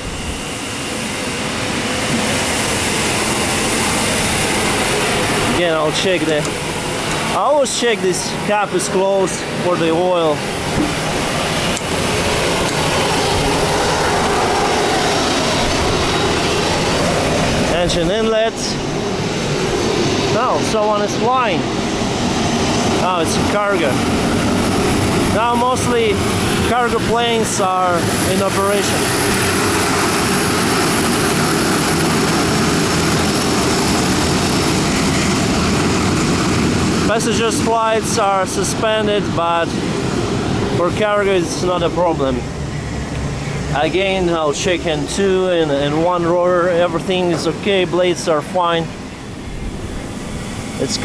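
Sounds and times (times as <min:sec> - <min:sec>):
faint high whine: 0:00.0 - 0:51.0
jet aircraft flying overhead: 0:00.0 - 0:51.0.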